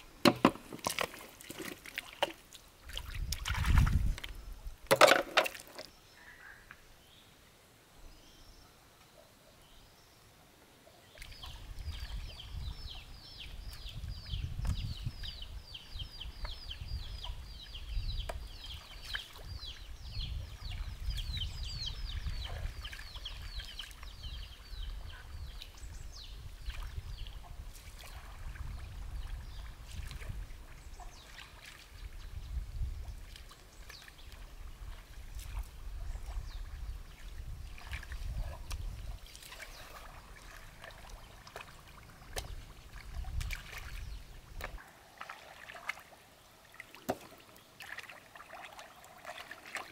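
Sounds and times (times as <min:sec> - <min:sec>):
water sloshing and trickling: 0:00.0 - 0:06.0, 0:11.1 - 0:49.9.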